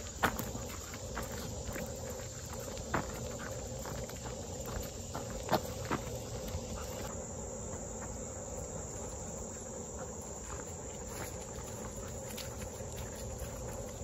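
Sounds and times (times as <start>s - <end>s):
footsteps on leafy dirt trail: 0.0s - 14.0s
insects chirping: 0.0s - 14.0s.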